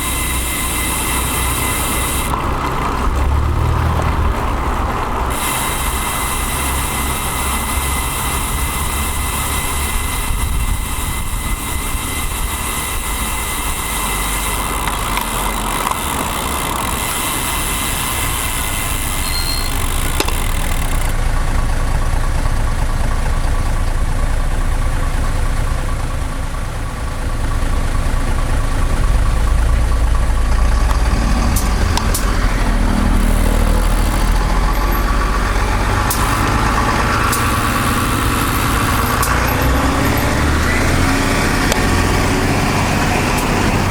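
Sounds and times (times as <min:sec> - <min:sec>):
traffic rumble: 0:00.0 - 0:43.9
vehicle engines running: 0:00.0 - 0:43.9.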